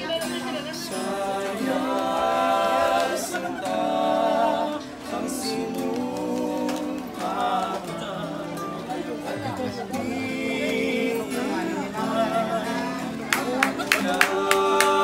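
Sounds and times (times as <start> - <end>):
strummed acoustic guitar: 0.0 - 15.0
men singing together: 0.7 - 15.0.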